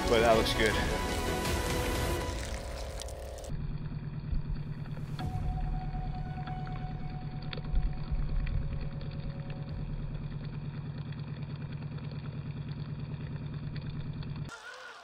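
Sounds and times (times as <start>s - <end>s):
small water pump humming: 0.0s - 15.0s.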